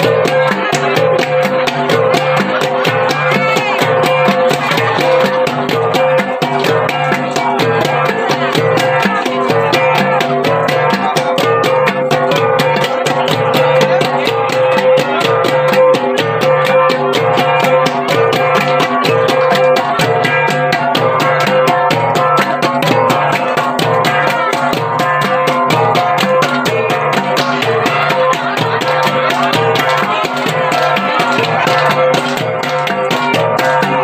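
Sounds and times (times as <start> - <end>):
gongs struck in interlocking rhythm: 0.0 - 34.0.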